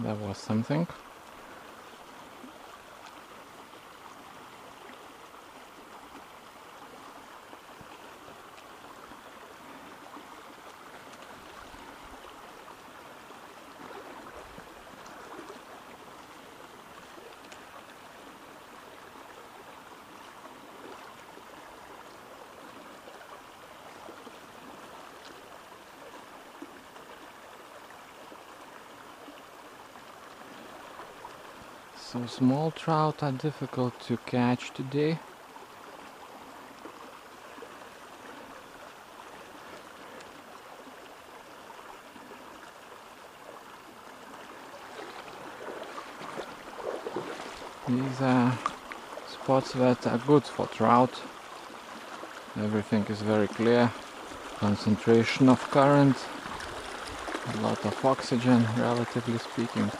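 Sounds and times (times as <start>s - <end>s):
river babbling over rocks: 0.0s - 59.9s.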